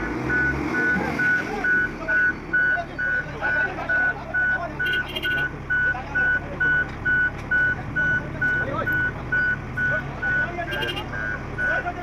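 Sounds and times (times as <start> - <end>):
heavy vehicle engine running: 0.0 - 12.0
reversing alarm beeping: 0.1 - 11.9.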